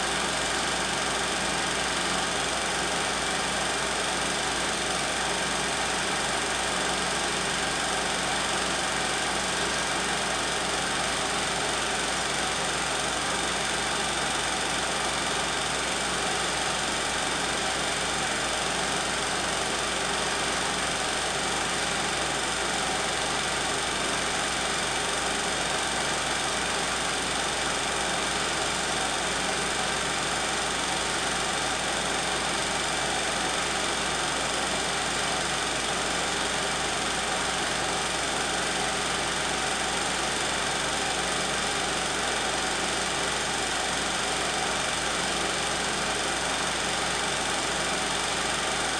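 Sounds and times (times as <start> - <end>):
film projector whirring and clattering: 0.0 - 48.9.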